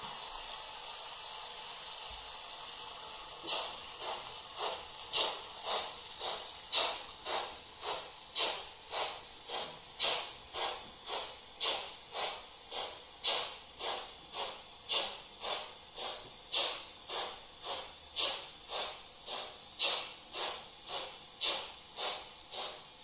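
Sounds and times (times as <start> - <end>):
model steam locomotive chuffs: 0.0 - 23.0.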